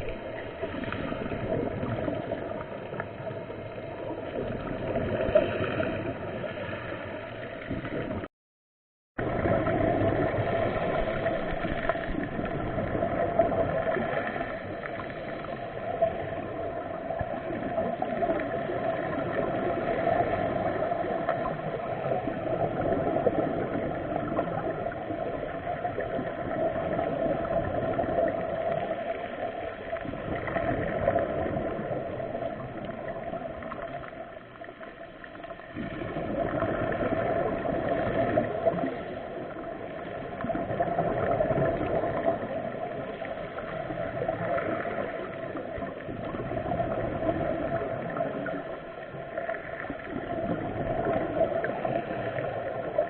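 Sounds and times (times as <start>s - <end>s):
muffled water gurgling: 0.0s - 8.3s, 9.2s - 53.0s.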